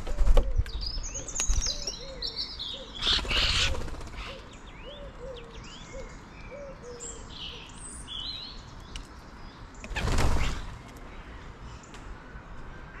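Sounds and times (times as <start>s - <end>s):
garden birds chirping: 0.0s - 13.0s.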